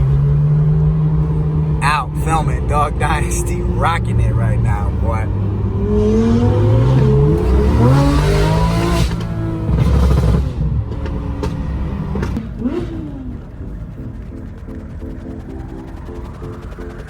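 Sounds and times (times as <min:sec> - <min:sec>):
sports car engine accelerating: 0:00.0 - 0:17.0.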